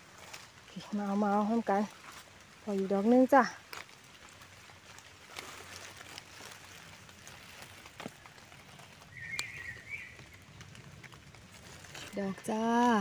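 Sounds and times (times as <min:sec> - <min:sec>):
rustling of wet undergrowth: 0:00.0 - 0:13.0
twigs snapping: 0:00.1 - 0:13.0.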